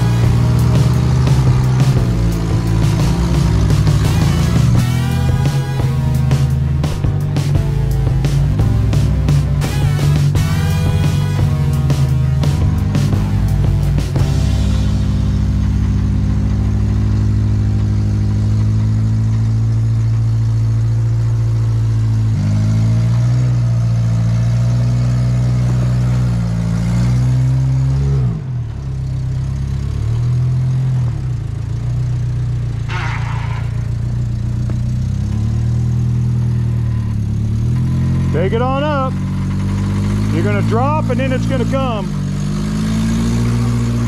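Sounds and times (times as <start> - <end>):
off-road vehicle engine: 0.0 - 44.0.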